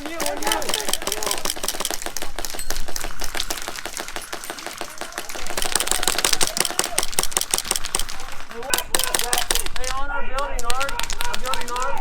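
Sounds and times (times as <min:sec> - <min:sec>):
airsoft guns firing: 0:00.0 - 0:12.0.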